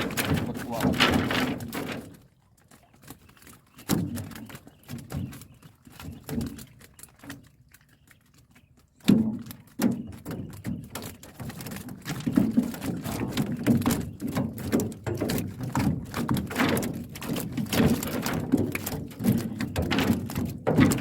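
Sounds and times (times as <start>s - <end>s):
knocks and thumps in a boat: 0.0s - 21.0s.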